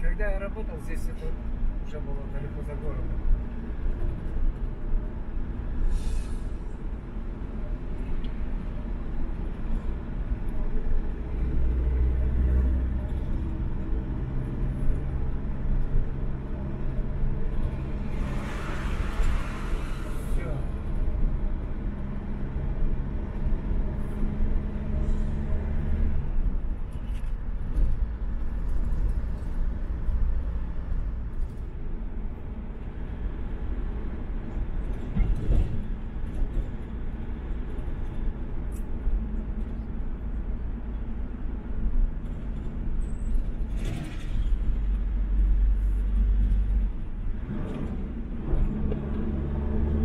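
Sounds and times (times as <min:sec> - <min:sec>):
car engine rumble: 0:00.0 - 0:50.0
tyres on road: 0:00.0 - 0:50.0.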